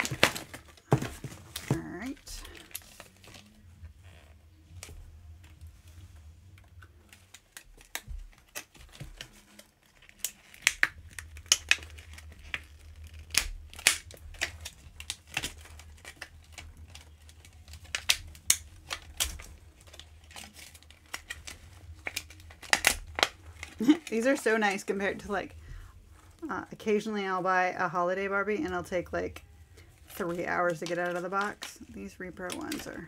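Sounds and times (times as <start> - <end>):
plastic packaging crinkling: 0.0 - 26.6, 29.2 - 33.0
low steady hum: 0.0 - 33.0.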